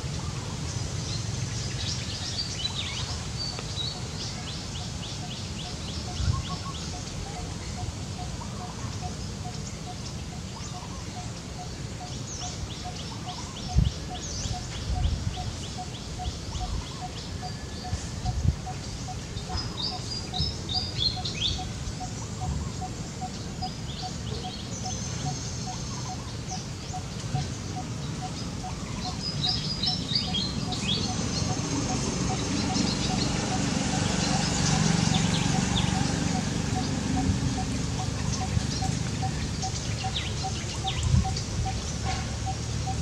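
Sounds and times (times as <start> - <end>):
birds chirping and trilling: 0.0 - 43.0.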